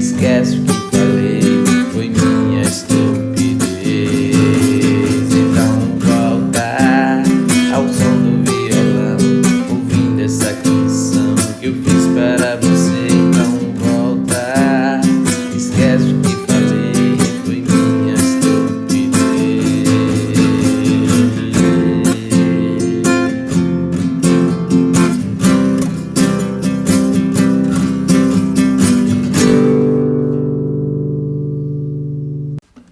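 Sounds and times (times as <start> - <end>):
wavering guitar melody: 0.0 - 32.7
acoustic guitar strumming chords: 0.0 - 32.9.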